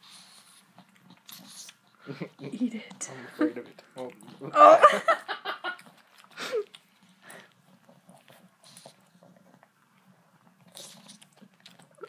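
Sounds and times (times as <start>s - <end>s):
puppy licking and lip-smacking: 0.0s - 4.5s, 5.6s - 12.0s.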